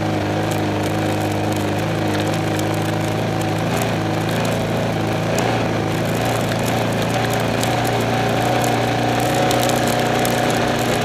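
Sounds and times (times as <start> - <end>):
race car engine running: 0.0 - 11.0
sharp rattling clicks: 0.3 - 11.0.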